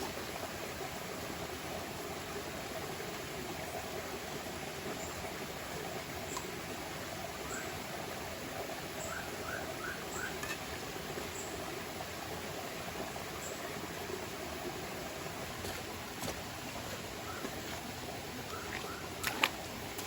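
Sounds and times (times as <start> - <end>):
forest river rushing: 0.0 - 20.0.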